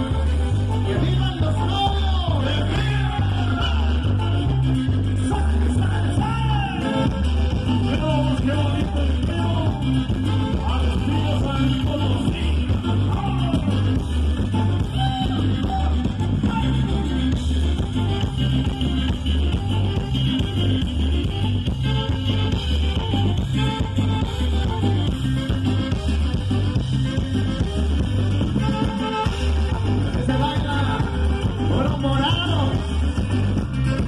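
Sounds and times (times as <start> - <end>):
bass switching between notes: 0.0 - 34.0
live band playing dance tune: 0.0 - 34.0.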